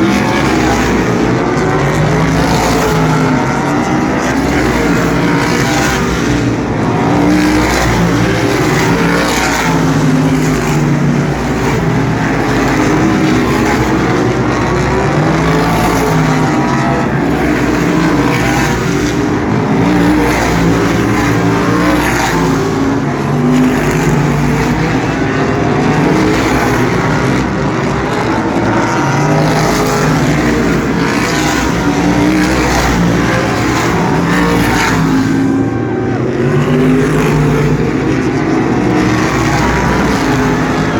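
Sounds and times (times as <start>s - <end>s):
racing car engines: 0.0s - 40.9s.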